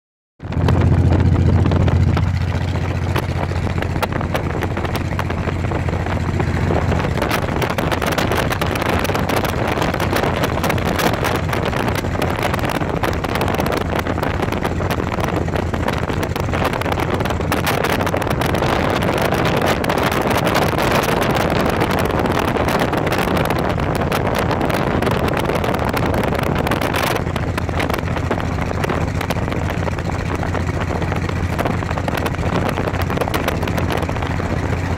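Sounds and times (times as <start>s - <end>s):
motorcycle engine drone: 0.4s - 34.9s
tyre and road noise: 0.4s - 34.9s
wind buffeting microphone: 0.4s - 34.9s.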